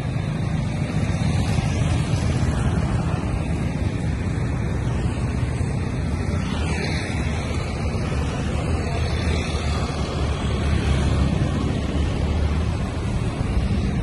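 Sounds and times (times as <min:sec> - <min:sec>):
motorcycles and scooters passing: 0:00.0 - 0:14.0.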